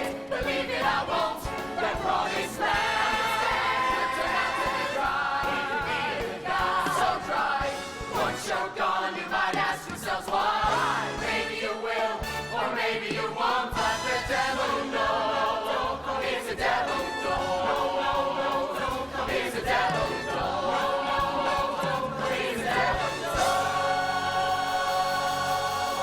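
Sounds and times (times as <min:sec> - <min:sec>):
band accompaniment: 0:00.0 - 0:26.0
chorus singing: 0:00.0 - 0:26.0.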